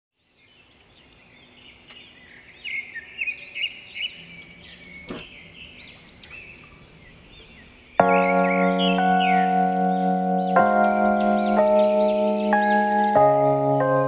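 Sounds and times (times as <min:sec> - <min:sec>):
birds chirping: 0:00.2 - 0:14.0.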